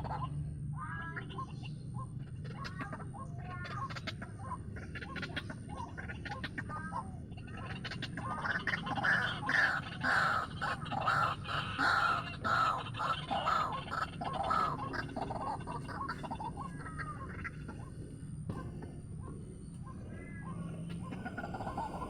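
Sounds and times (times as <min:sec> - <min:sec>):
waterhen croaking calls: 0:00.0 - 0:22.0.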